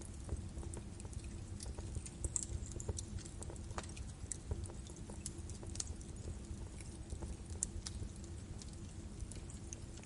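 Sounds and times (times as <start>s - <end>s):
logs crackling and popping: 0.0s - 10.0s
low rumble of flames: 0.0s - 10.0s.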